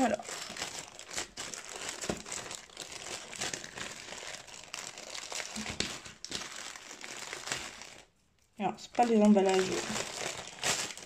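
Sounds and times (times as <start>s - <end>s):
plastic bag crinkling and tearing: 0.0s - 11.0s.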